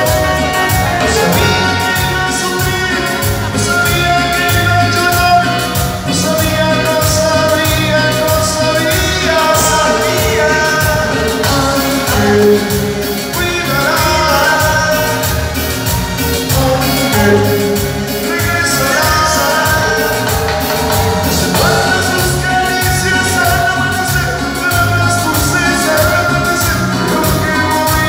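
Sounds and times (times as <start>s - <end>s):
live band playing: 0.0s - 28.0s
man singing: 0.0s - 28.0s.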